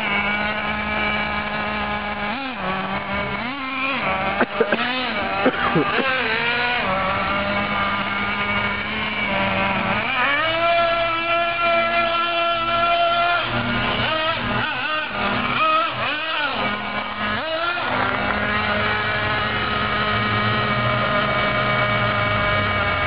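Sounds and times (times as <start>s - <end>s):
small engine buzzing and revving: 0.0s - 23.0s.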